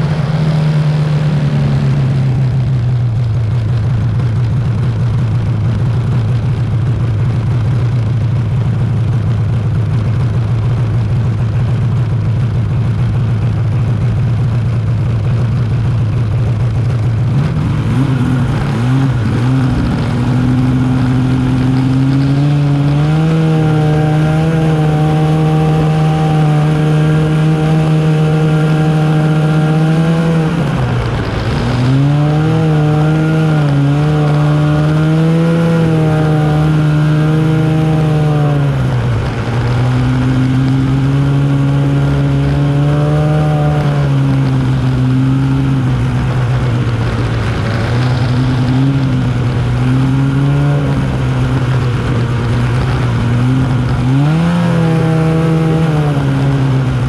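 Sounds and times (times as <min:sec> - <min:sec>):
snowmobile engine: 0:00.0 - 0:57.0.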